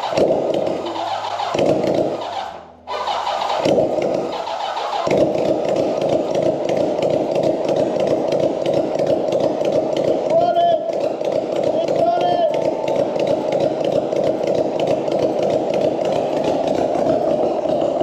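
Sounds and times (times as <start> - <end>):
electric starter cranking engine: 0.0 - 18.0
motorcycle engine running: 0.0 - 18.0.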